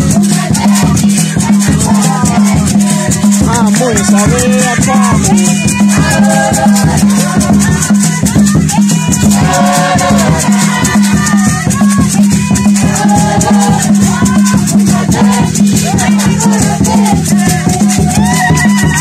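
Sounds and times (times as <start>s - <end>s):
group singing: 0.0s - 19.0s
rattles shaken in fast beat: 0.0s - 19.0s.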